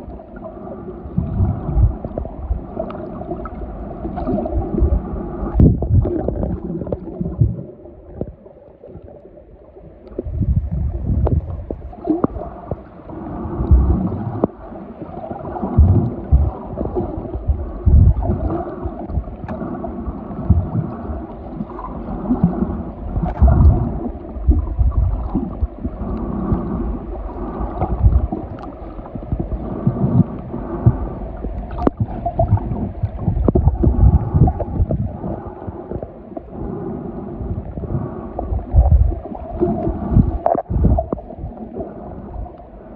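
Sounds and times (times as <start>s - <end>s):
underwater sloshing and gurgling: 0.0s - 42.9s.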